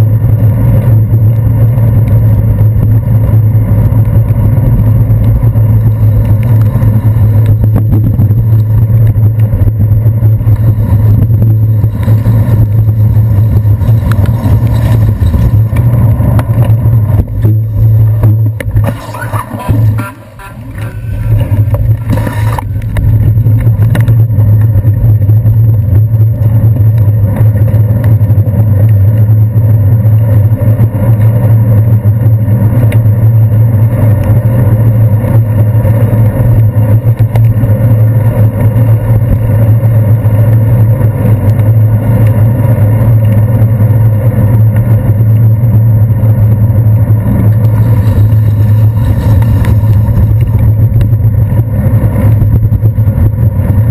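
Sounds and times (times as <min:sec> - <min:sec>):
wind and road noise rumble: 0:00.0 - 0:53.9.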